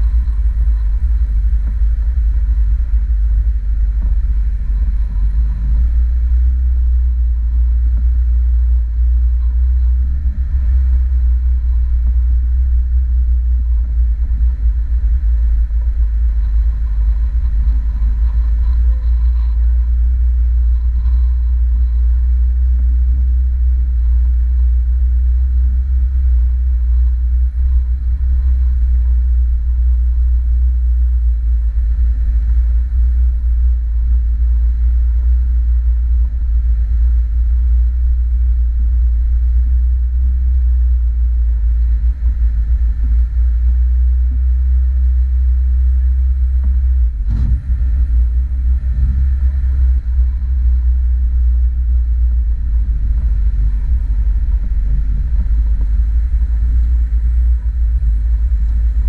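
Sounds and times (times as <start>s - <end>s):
car engine rumbling on dirt track: 0.0s - 59.0s.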